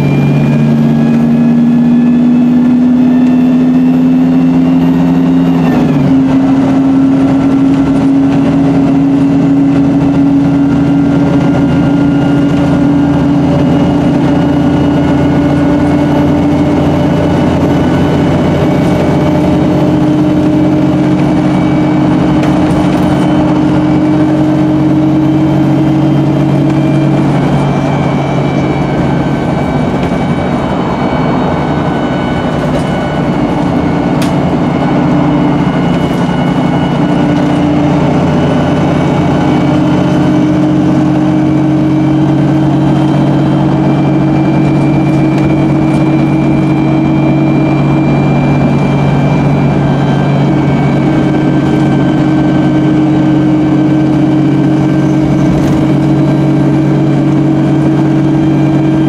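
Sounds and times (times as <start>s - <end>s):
bus diesel engine drone: 0.0s - 59.0s
high-pitched whines: 0.0s - 59.0s.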